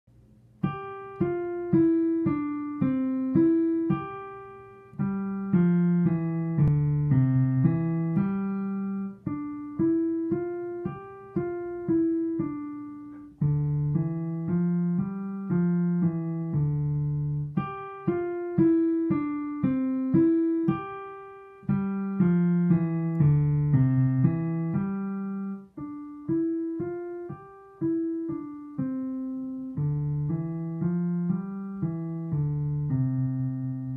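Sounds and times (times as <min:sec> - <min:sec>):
digital piano single notes: 0:00.6 - 0:33.9.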